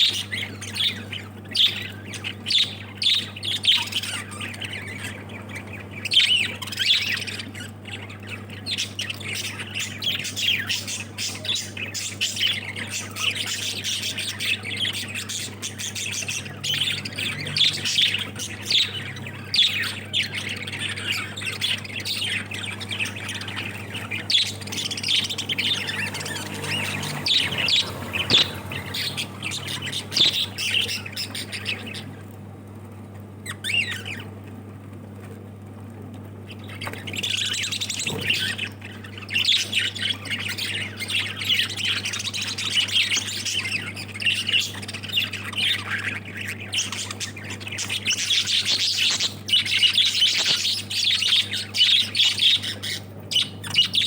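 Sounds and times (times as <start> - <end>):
lovebirds squawking and chirping: 0.0 - 35.5, 36.3 - 54.0
faint low hum: 0.0 - 54.0.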